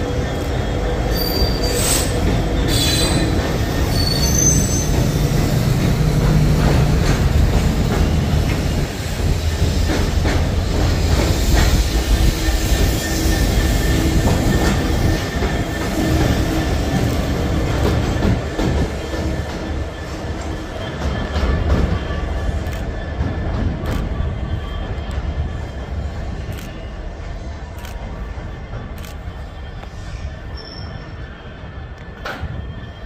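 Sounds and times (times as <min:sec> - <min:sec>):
diesel locomotive rumble: 0:00.0 - 0:30.4
train wheel squeal: 0:00.0 - 0:33.0.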